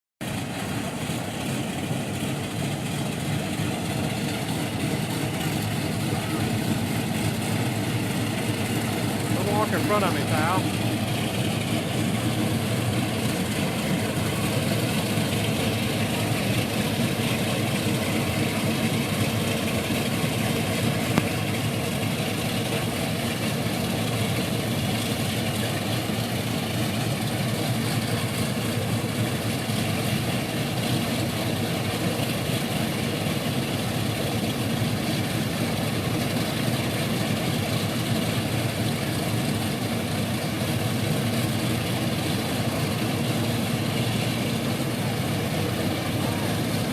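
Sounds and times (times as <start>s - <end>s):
radial piston engines droning: 0.2s - 46.9s.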